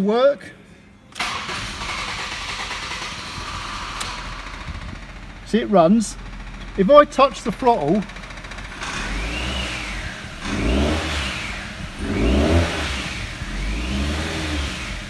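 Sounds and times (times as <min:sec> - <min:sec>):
car engine revving: 0:01.2 - 0:15.0.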